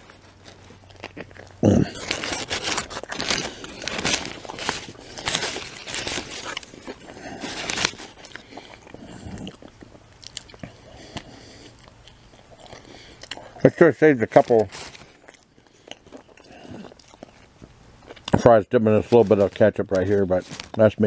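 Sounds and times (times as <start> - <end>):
person chewing hamburger: 0.0 - 20.8.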